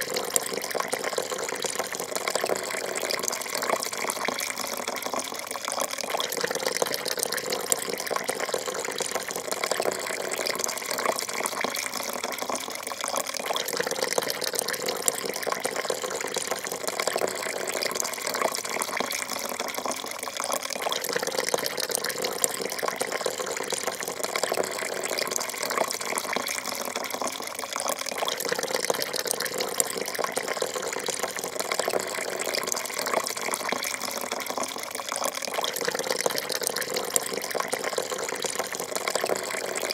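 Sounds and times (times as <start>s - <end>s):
coffee pouring into a cup: 0.0s - 39.9s.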